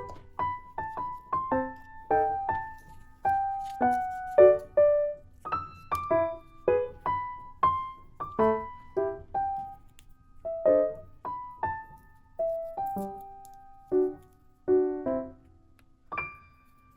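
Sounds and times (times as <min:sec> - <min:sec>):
gentle keyboard melody: 0:00.0 - 0:16.9.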